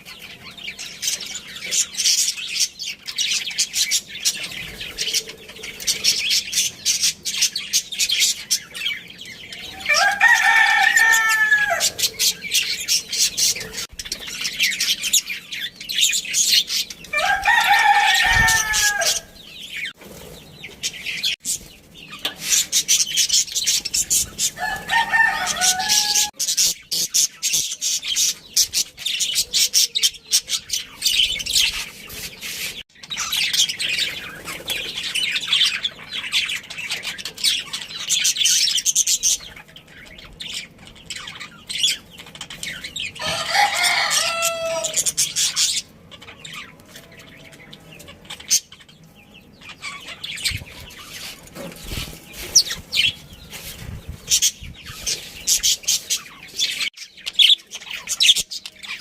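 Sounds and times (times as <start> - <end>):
budgerigars chattering and warbling: 0.0 - 59.0
drawn-out pitched bird calls: 0.0 - 59.0.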